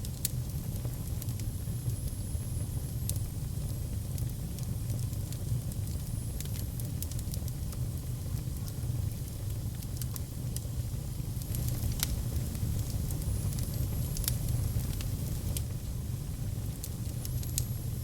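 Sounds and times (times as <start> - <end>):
burning wood crackling and popping: 0.0 - 18.0
fire flame rumble: 0.0 - 18.0.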